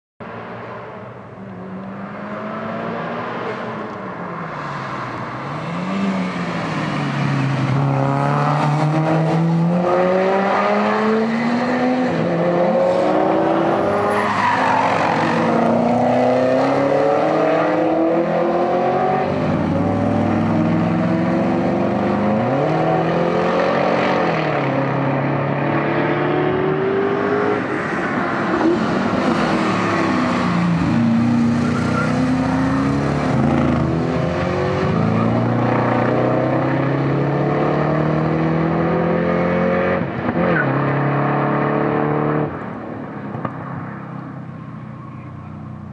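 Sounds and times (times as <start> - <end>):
race car engines accelerating: 0.2 - 45.9.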